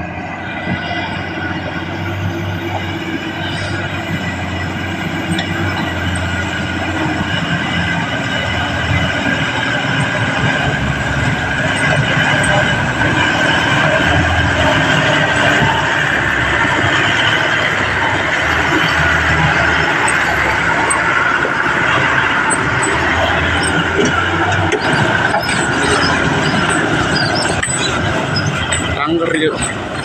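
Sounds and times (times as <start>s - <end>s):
diesel truck engine drone: 0.0s - 30.0s
high engine whine: 0.0s - 30.0s.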